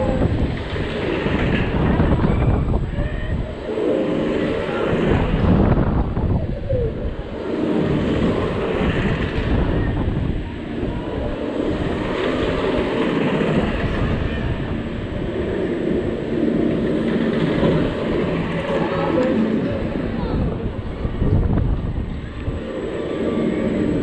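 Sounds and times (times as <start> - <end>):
spinning ride rumble and whoosh: 0.0 - 24.0
wind buffeting microphone: 0.0 - 24.0.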